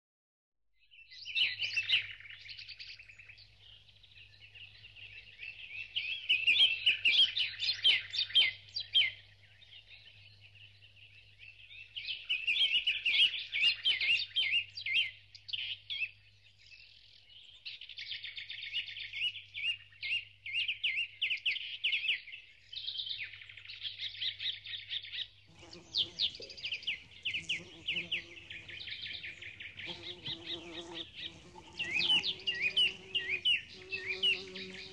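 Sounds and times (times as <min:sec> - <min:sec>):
small birds chirping and twittering: 0:00.8 - 0:34.9.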